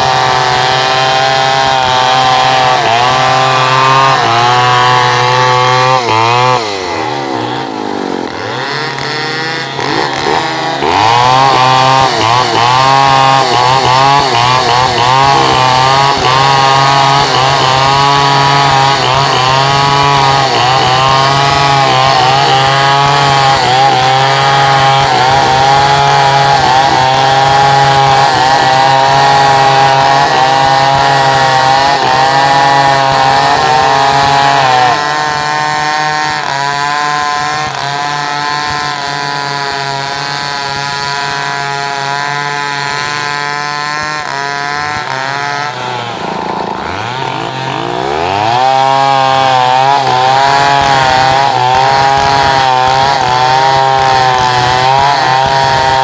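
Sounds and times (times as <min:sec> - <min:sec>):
chainsaw sawing through wood: 0:00.0 - 0:56.0.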